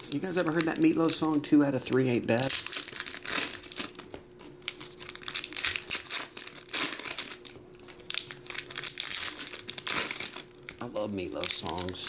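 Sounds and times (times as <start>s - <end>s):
faint steady hum: 0.0s - 12.0s
foil wrappers crinkling: 0.0s - 12.0s.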